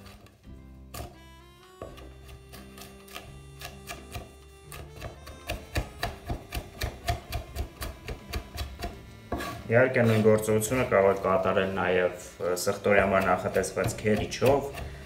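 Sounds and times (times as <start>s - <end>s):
knife chopping on wooden board: 0.0s - 1.2s, 1.8s - 10.8s, 12.7s - 15.0s
background music sustained notes: 0.0s - 15.0s.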